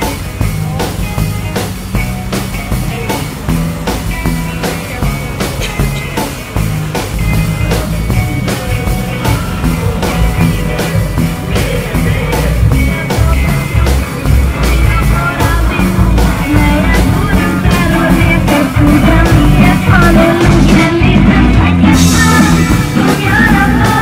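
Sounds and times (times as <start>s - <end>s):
upbeat rock music: 0.0s - 24.0s.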